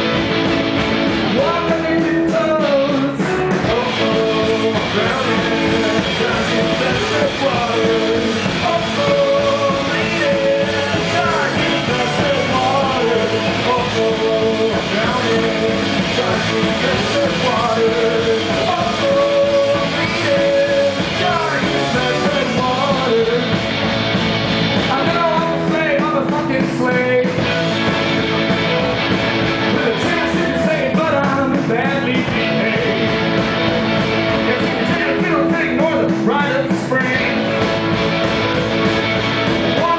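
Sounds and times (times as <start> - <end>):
rock band playing live: 0.0 - 39.9
man singing: 1.2 - 23.8, 24.8 - 28.1, 29.6 - 33.6, 34.3 - 37.6, 39.6 - 39.9.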